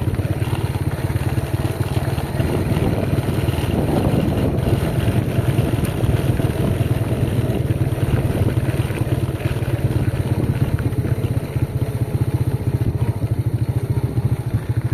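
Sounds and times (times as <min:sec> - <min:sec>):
small engine running steadily: 0:00.0 - 0:14.9.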